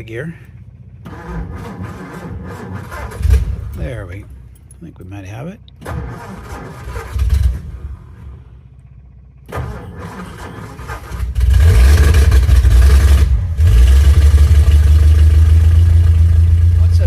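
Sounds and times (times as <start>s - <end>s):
car engine starting and running: 0.0s - 17.0s.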